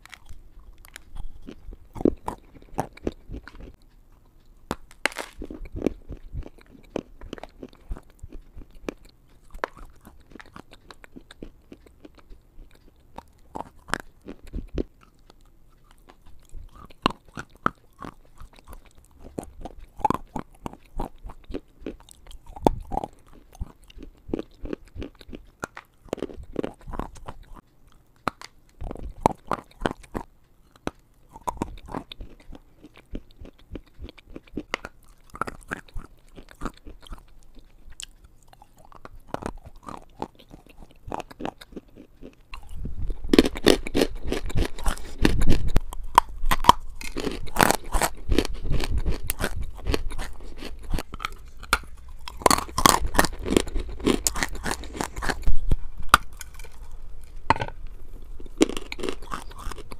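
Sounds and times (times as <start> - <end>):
biting and chewing crunches: 0.0 - 59.9
quiet chewing: 0.0 - 59.9.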